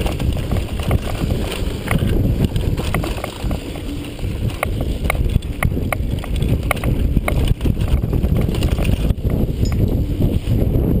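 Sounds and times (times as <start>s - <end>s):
bike rattling clicks: 0.0s - 10.2s
wind and tyre rumble: 0.0s - 11.0s.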